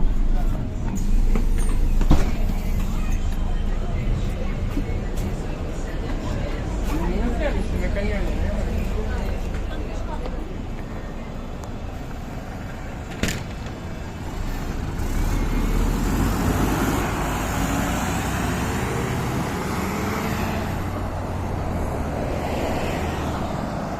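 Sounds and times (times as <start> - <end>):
bus engine and road noise: 0.0 - 23.9.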